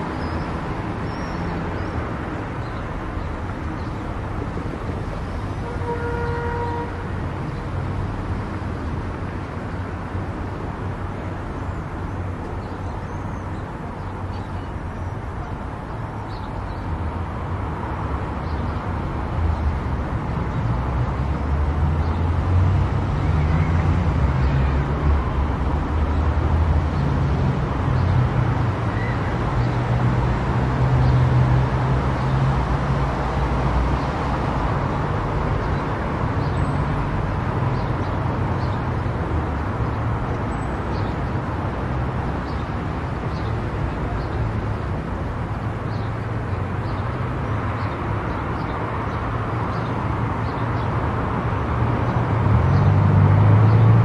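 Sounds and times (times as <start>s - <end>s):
car driving on highway: 0.0s - 54.0s.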